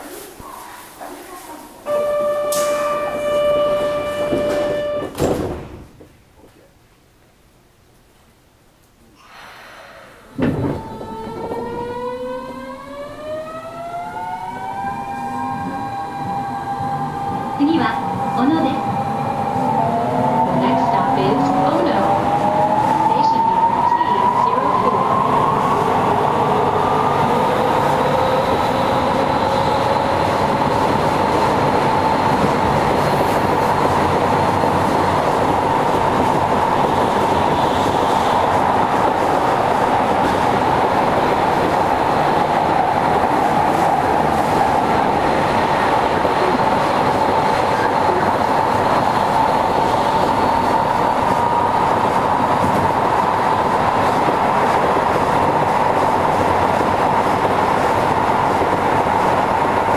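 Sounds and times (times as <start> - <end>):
train wheels on rail: 0.0 - 6.7, 9.2 - 59.9.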